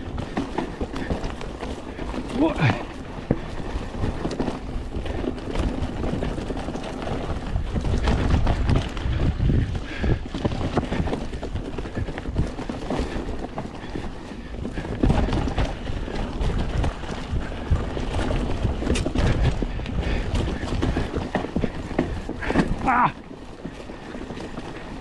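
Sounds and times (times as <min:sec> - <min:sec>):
bike chain and frame rattling: 0:00.0 - 0:25.0
bike tyres clattering over dirt: 0:00.0 - 0:25.0.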